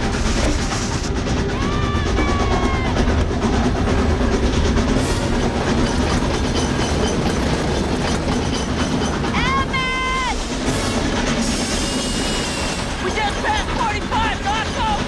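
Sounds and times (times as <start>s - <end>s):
orchestral film score: 0.0s - 15.0s
steam locomotive running hard: 0.0s - 15.0s.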